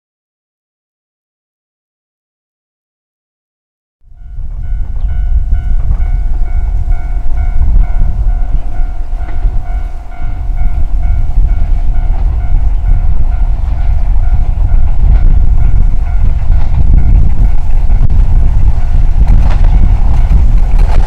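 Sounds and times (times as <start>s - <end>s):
electric train rumbling: 4.0s - 21.0s
steady pitched tone: 4.1s - 21.0s.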